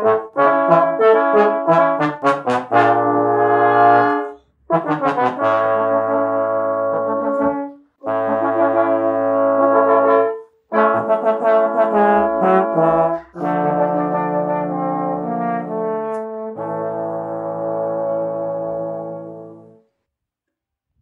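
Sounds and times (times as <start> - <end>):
trombone quartet playing chords: 0.0 - 19.8.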